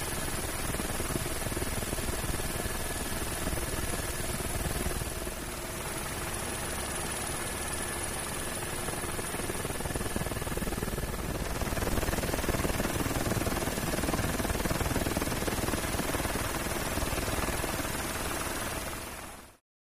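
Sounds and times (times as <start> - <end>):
helicopter rotor beat: 0.0 - 19.6.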